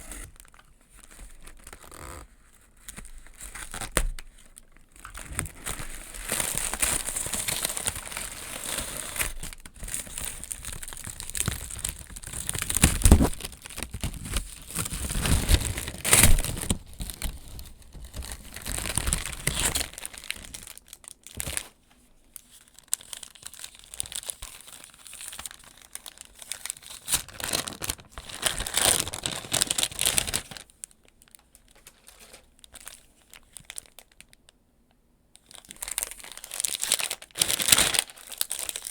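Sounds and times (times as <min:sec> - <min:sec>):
packaging tearing: 0:00.0 - 0:21.7, 0:22.6 - 0:30.7, 0:35.5 - 0:38.9
packaging crinkling and unwrapping: 0:00.0 - 0:34.4, 0:35.4 - 0:38.9.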